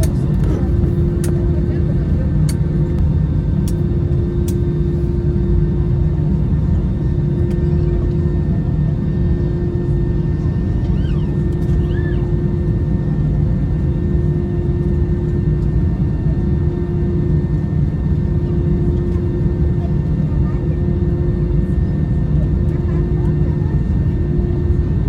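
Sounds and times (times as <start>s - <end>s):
airplane cabin engine rumble: 0.0s - 25.0s
constant hum: 0.0s - 25.0s.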